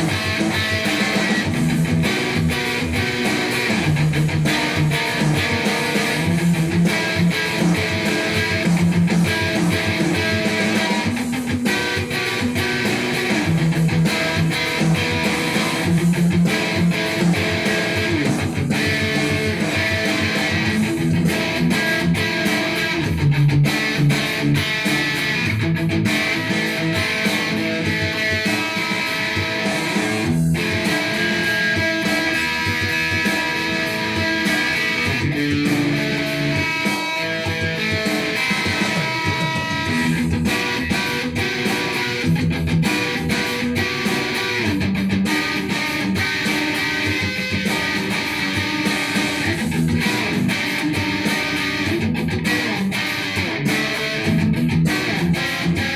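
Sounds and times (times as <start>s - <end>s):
electric guitar riffing: 0.0s - 55.9s.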